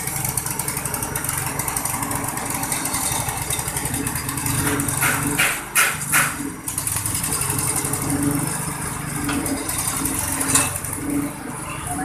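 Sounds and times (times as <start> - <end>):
husk peeling machine running: 0.0 - 12.0.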